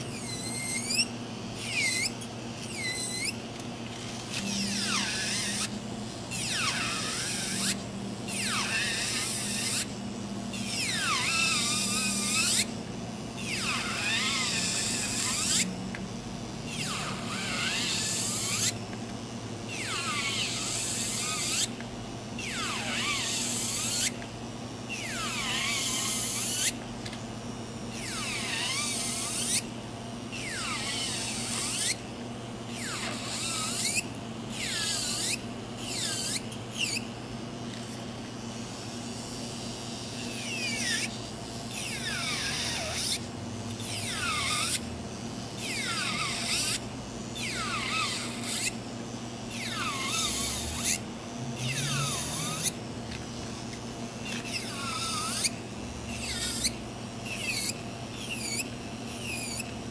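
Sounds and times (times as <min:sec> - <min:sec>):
electric nail drill whining: 0:00.0 - 0:12.8, 0:13.4 - 0:18.9, 0:19.7 - 0:24.3, 0:24.9 - 0:27.2, 0:27.9 - 0:29.7, 0:30.3 - 0:32.1, 0:32.7 - 0:37.1, 0:40.2 - 0:44.9, 0:45.6 - 0:48.8, 0:49.4 - 0:59.8.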